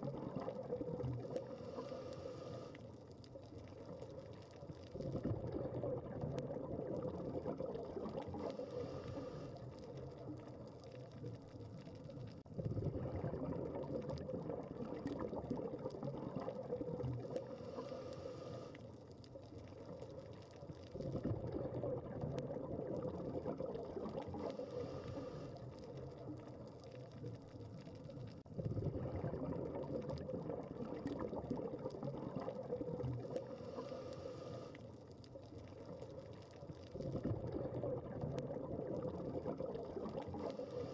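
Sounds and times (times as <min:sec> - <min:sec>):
scuba exhale bubbling: 0:00.0 - 0:40.9.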